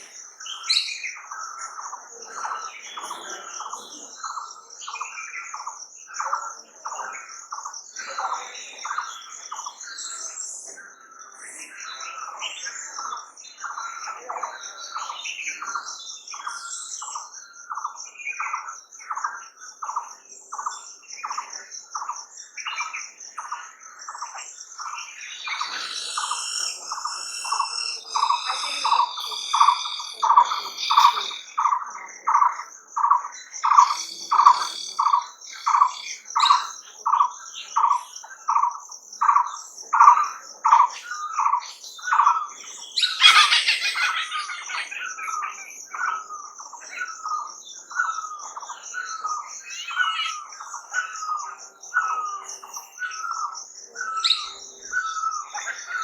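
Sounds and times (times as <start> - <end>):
other birds chirping: 0.0 - 56.0.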